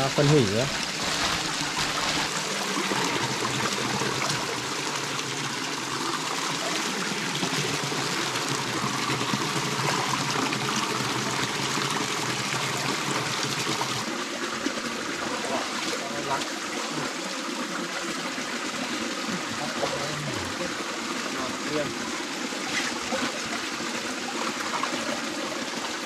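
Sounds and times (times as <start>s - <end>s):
stream water running: 0.0s - 26.0s.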